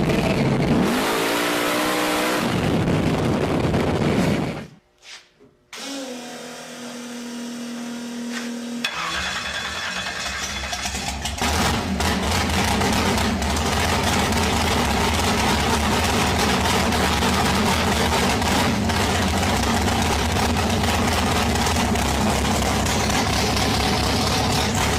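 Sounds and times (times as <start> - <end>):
car engine running loudly: 0.0 - 4.7, 8.9 - 24.9.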